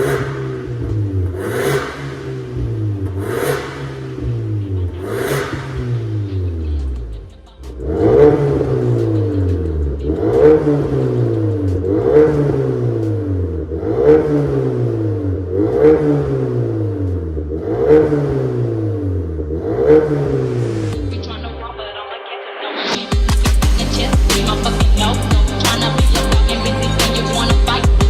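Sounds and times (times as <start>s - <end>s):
car engine revving: 0.0s - 21.9s, 23.3s - 28.0s.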